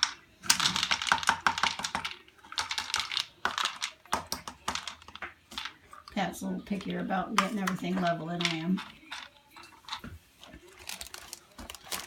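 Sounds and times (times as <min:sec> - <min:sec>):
dry kibble rattling in a scoop: 0:00.0 - 0:06.1, 0:07.4 - 0:12.0.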